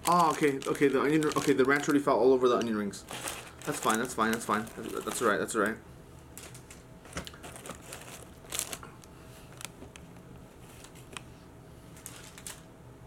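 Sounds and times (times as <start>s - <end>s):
paper wrappers crinkling: 0.0s - 9.9s, 12.0s - 12.7s.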